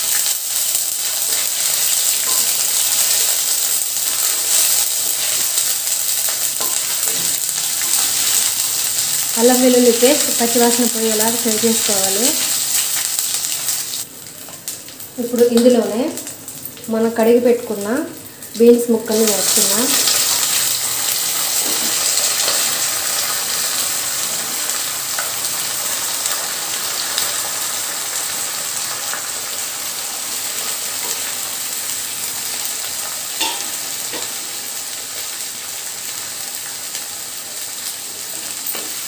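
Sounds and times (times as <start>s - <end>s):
beans sizzling in hot oil: 0.0s - 39.0s.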